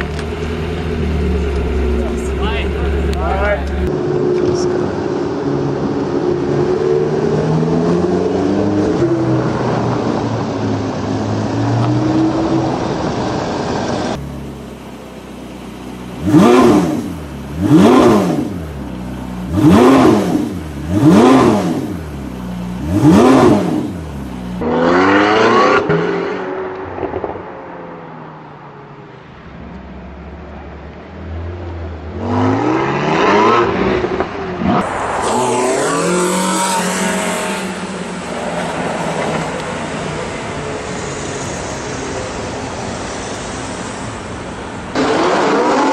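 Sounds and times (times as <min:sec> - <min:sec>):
car engine revving: 0:00.0 - 0:28.8, 0:29.9 - 0:44.0, 0:44.9 - 0:45.9.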